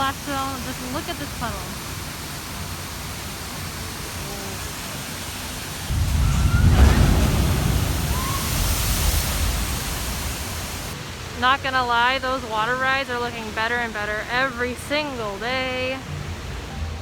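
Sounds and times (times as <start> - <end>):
rushing water: 0.0 - 17.0
water surging with deep rumble: 0.0 - 17.0.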